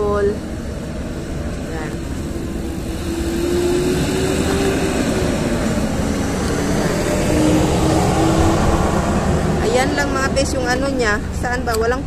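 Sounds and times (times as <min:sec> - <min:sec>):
distant engine rumble: 0:00.0 - 0:12.0
faint wavering hum: 0:00.0 - 0:12.0.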